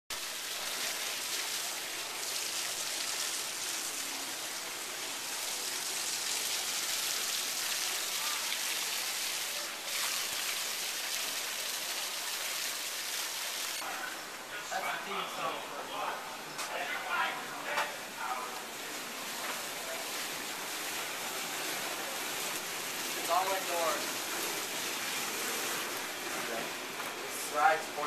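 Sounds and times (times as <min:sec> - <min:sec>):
water pouring and splashing: 0:00.1 - 0:13.9, 0:18.6 - 0:28.0.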